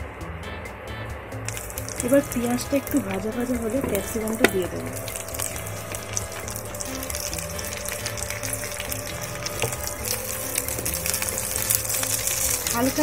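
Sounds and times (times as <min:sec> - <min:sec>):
vegetables sizzling in oil: 0:01.5 - 0:13.0
wooden spatula stirring: 0:01.5 - 0:13.0.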